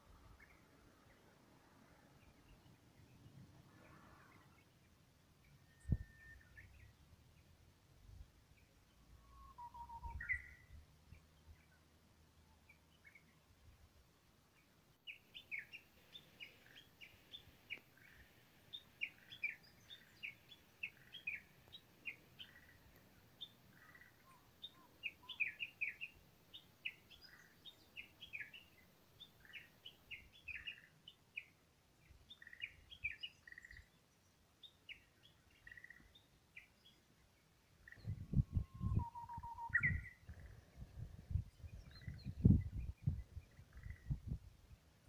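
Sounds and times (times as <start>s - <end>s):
faint chirping of small birds: 0.0s - 45.0s.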